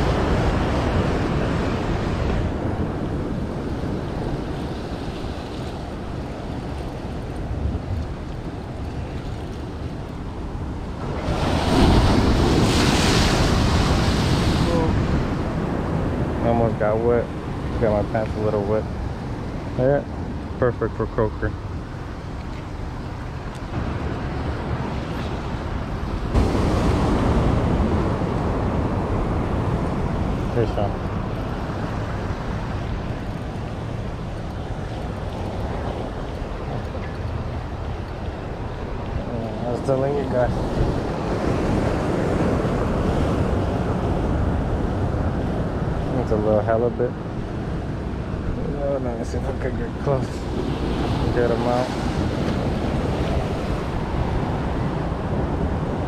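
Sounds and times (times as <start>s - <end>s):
surf washing against rocks: 0.0s - 56.0s
wind buffeting microphone: 0.0s - 56.0s.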